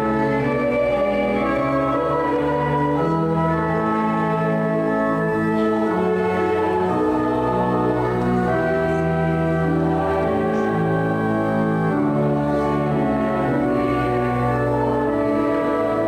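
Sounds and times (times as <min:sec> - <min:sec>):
church organ playing a hymn: 0:00.0 - 0:16.0.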